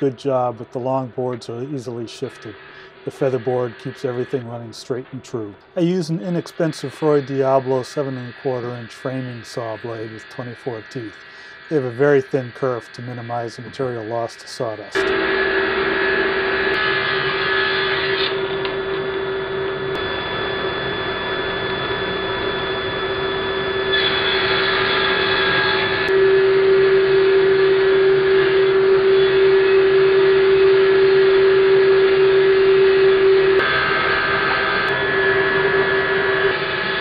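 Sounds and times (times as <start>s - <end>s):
dust collector running: 0.0s - 37.0s.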